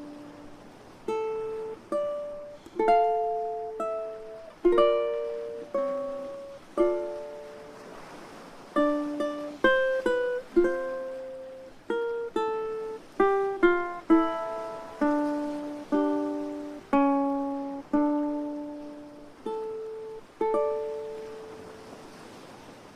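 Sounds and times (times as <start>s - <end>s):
ukulele slow melody: 0.0s - 22.1s.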